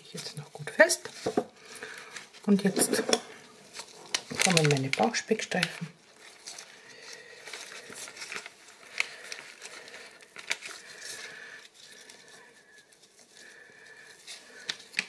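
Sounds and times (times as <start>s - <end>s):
bacon handling crackling: 1.1s - 15.0s.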